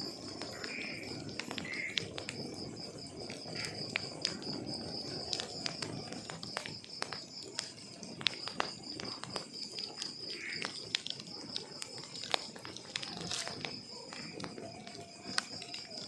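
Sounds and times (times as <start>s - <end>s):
burning logs rushing: 0.0s - 16.0s
fire pops and snaps: 0.0s - 16.0s.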